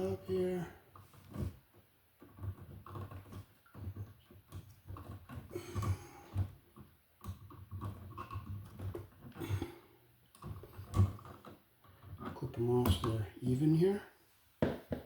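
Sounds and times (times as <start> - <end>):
electrical wires handled by hand: 0.0 - 14.0.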